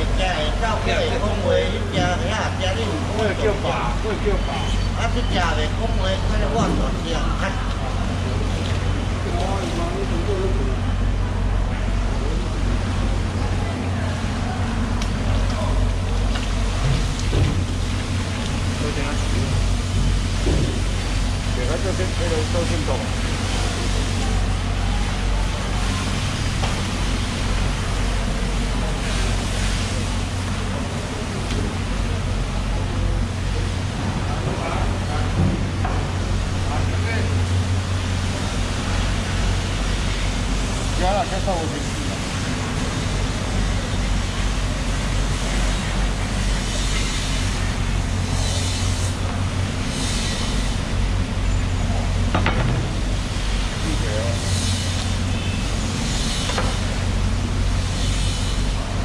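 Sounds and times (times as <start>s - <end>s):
constant low hum: 0.0s - 59.0s
water rushing from a hose: 11.6s - 59.0s.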